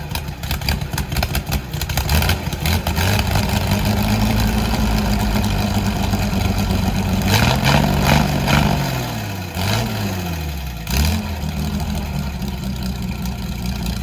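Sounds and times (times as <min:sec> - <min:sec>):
petrol engine revving and idling: 0:00.0 - 0:14.0.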